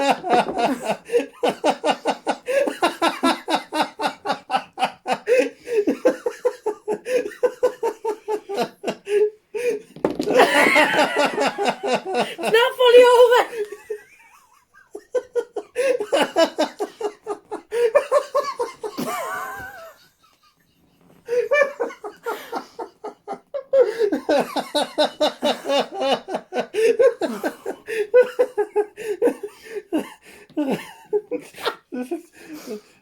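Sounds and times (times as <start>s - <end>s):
people laughing hard: 0.0s - 32.5s.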